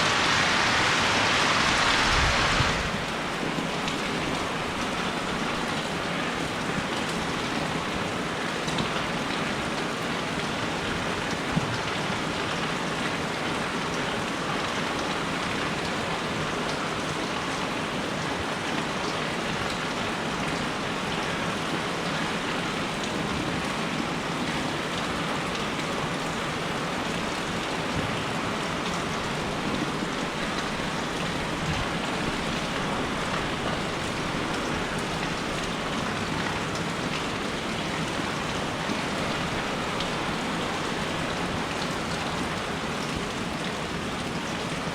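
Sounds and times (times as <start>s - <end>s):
steady rain patter: 0.0s - 44.9s.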